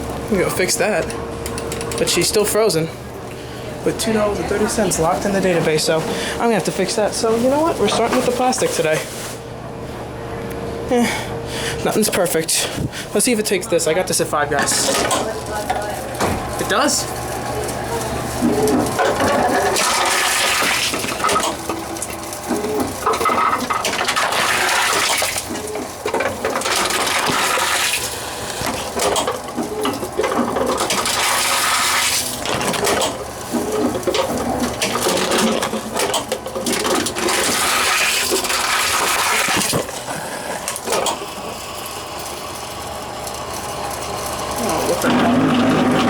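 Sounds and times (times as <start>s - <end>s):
bottles rattling through vending machine: 3.8s - 9.1s, 11.9s - 46.0s.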